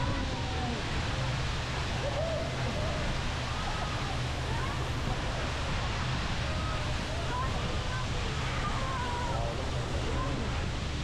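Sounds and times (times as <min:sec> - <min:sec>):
faint distant voices: 0:00.0 - 0:11.0
rush of wind and water: 0:00.0 - 0:11.0.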